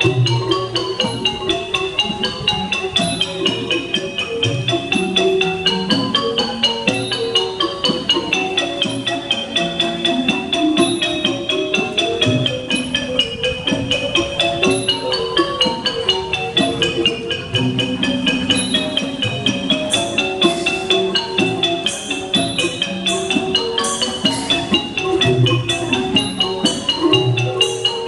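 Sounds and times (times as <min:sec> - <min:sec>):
xylophone melody: 0:00.0 - 0:28.0.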